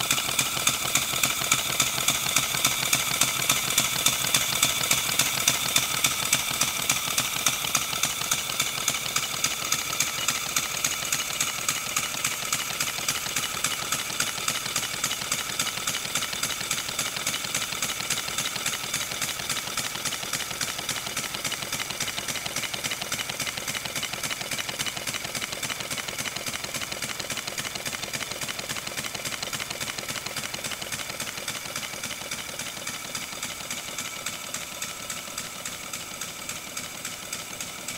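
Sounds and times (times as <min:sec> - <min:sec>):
model locomotive chuffing: 0:00.0 - 0:37.9.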